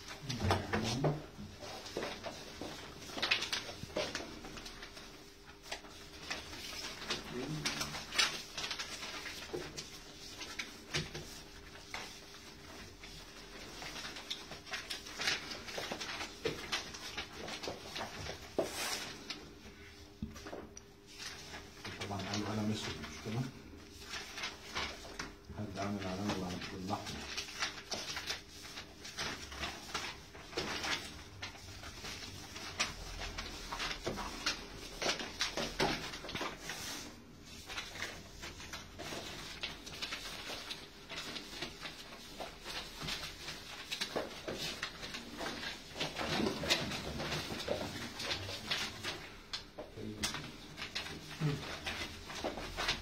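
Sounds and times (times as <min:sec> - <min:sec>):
paper rustling and crinkling: 0:00.0 - 0:53.0.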